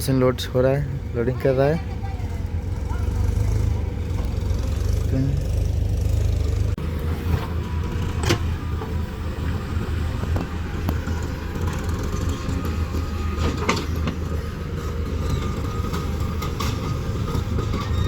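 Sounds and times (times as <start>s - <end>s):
diesel backhoe engine running: 0.0s - 18.0s.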